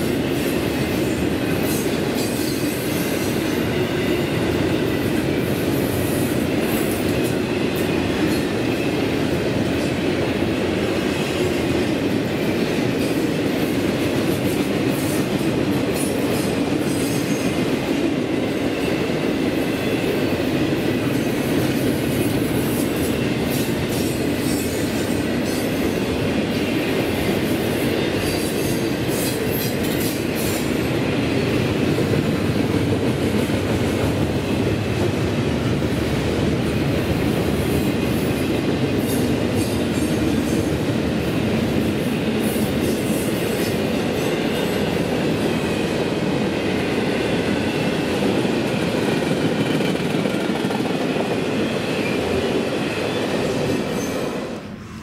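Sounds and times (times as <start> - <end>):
railroad cars rumbling past: 0.0 - 55.0.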